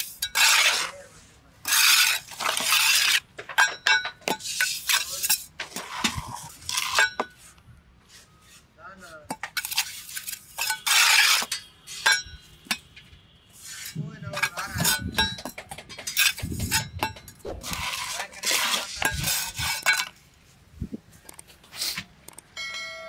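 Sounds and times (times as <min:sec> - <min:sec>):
trowel scraping steel mould: 0:00.0 - 0:12.9, 0:13.5 - 0:20.2.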